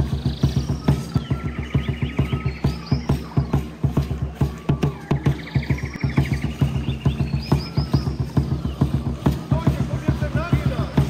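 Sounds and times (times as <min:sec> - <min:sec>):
birds chirping and trilling: 0:00.0 - 0:11.0
drum beating fast rhythm: 0:00.0 - 0:11.0.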